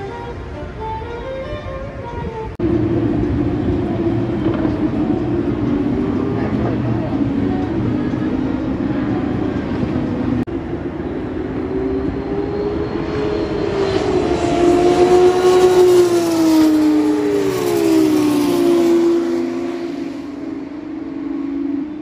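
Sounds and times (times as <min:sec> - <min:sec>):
racing car engines passing: 0:00.0 - 0:22.0.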